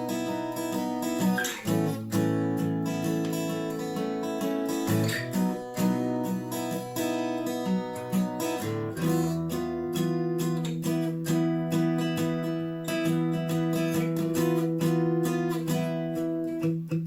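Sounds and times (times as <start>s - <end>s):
acoustic guitar strummed and picked: 0.0s - 17.0s.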